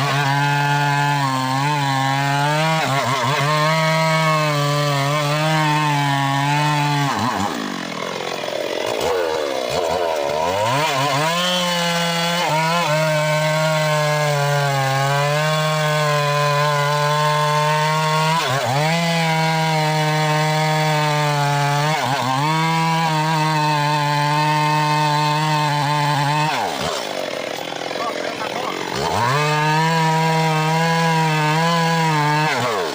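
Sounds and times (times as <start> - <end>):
engine-driven saw cutting wood: 0.0 - 32.9.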